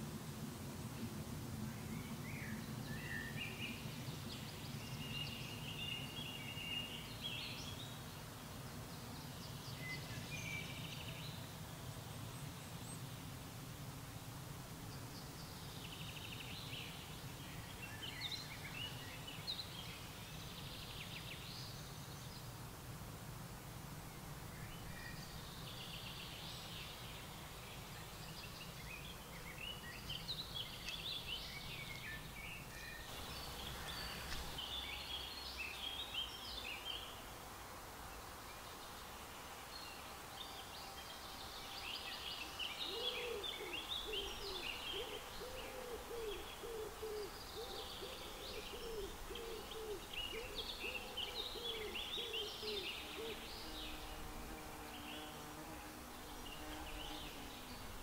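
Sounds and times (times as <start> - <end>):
songbirds singing: 1.6 - 13.3, 14.8 - 22.6, 24.1 - 58.0.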